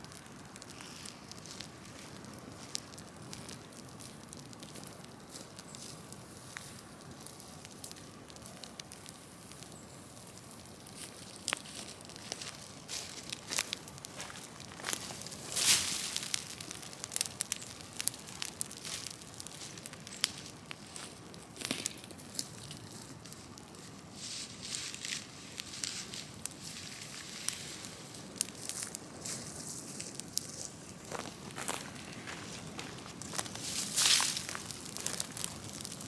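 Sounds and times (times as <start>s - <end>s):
bonfire crackling and popping: 0.0s - 36.0s.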